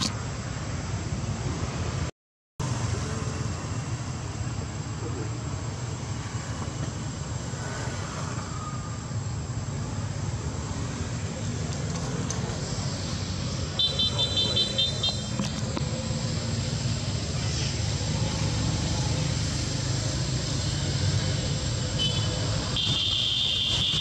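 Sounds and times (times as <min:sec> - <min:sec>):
outdoor rumble and hiss: 0:00.0 - 0:24.0.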